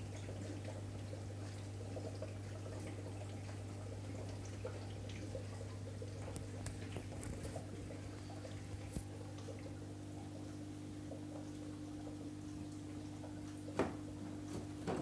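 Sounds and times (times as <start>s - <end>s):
water trickling and dripping: 0.0s - 14.9s
aquarium equipment hum: 0.0s - 15.0s.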